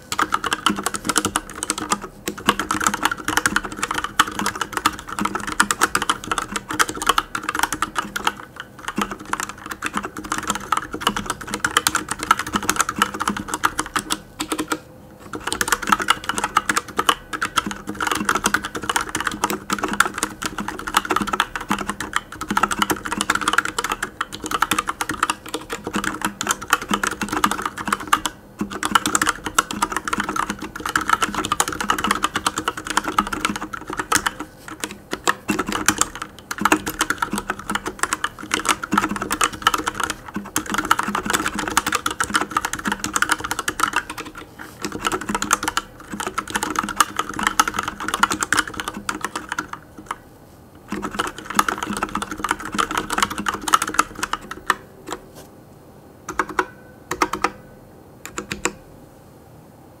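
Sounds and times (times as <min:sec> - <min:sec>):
mechanical keyboard keys clacking: 0:00.0 - 0:50.2, 0:50.9 - 0:55.2, 0:56.3 - 0:57.6, 0:58.2 - 0:58.8.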